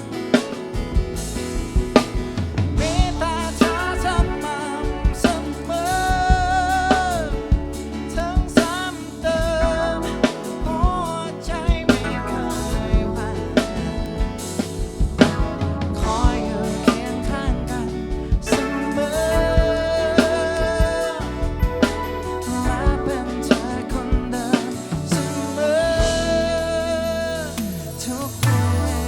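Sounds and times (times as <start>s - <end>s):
drum kit hits: 0.0s - 29.0s
person singing: 2.8s - 29.0s.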